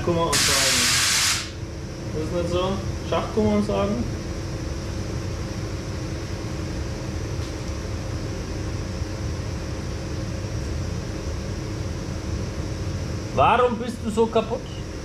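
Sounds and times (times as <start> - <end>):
machinery low rumble: 1.6 - 15.0.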